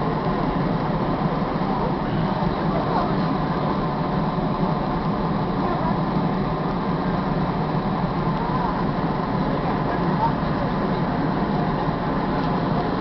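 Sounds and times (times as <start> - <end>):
passengers talking: 0.0 - 13.0
train engine rumbling: 0.0 - 13.0.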